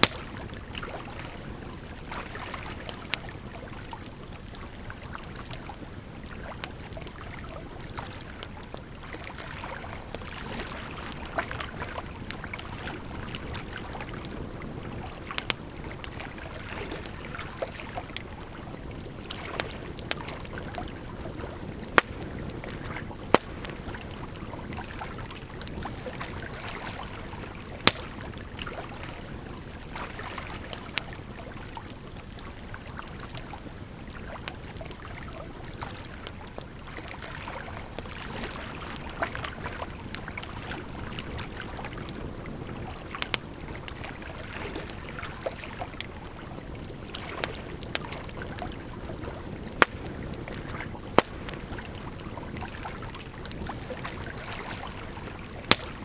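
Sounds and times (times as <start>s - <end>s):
firewood crackling and popping: 0.0s - 56.0s
flowing water: 0.0s - 56.0s.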